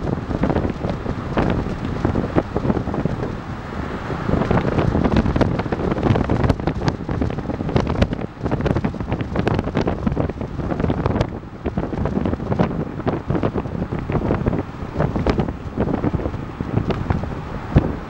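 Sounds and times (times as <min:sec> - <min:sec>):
vehicle road noise: 0:00.0 - 0:18.0
wind buffeting: 0:00.0 - 0:18.0.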